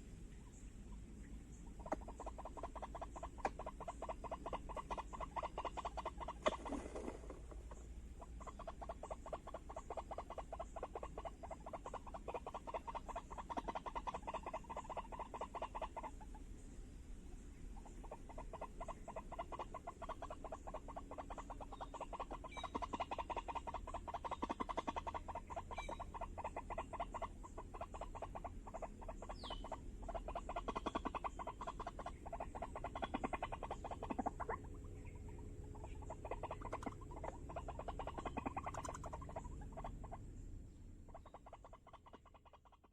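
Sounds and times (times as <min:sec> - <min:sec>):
rapid croaking animal calls: 0:01.6 - 0:16.6, 0:17.7 - 0:42.9.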